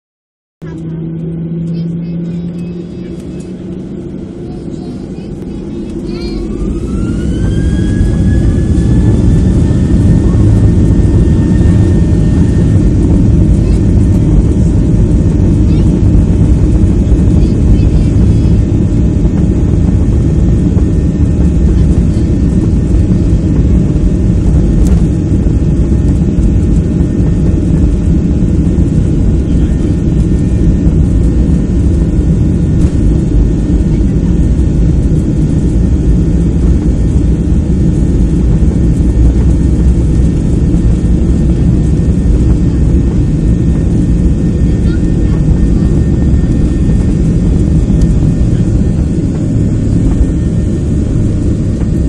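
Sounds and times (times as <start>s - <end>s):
jet engines at takeoff thrust: 0.6s - 52.0s
wheels rumbling on runway: 0.6s - 52.0s.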